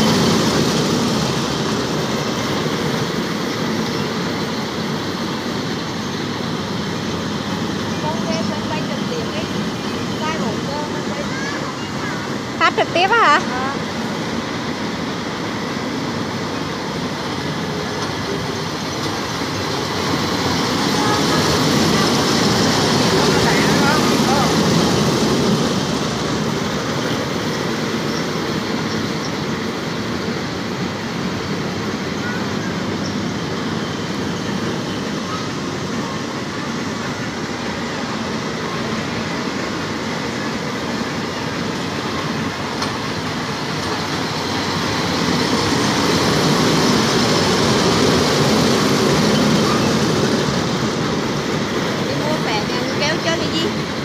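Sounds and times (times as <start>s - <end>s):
ride train rumbling on steel track: 0.0s - 54.0s.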